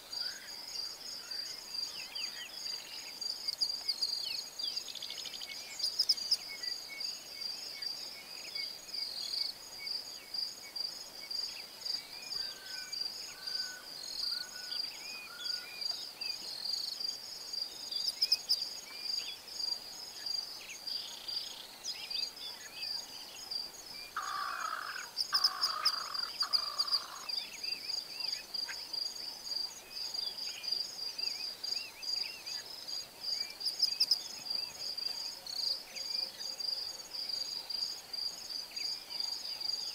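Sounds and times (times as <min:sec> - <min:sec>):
faint bird chirps: 0:00.0 - 0:37.6
insects trilling: 0:00.1 - 0:39.9.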